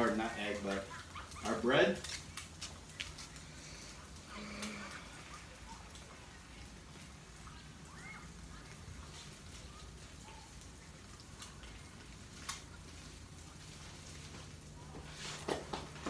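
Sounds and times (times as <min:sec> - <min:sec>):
crackling pops: 0:00.0 - 0:16.0
food sizzling on griddle: 0:00.0 - 0:16.0.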